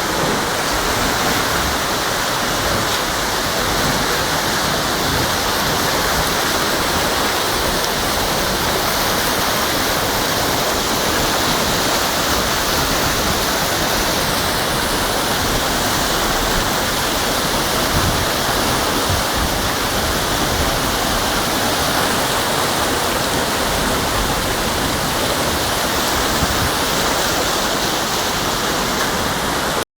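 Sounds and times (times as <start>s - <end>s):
floodwater rushing: 0.0s - 29.8s.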